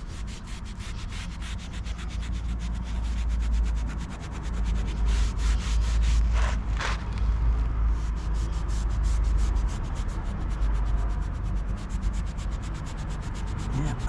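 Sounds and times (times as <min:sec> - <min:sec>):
paintbrush brushing brick: 0:00.0 - 0:07.2, 0:07.9 - 0:14.0
steady low rumble: 0:00.0 - 0:14.0.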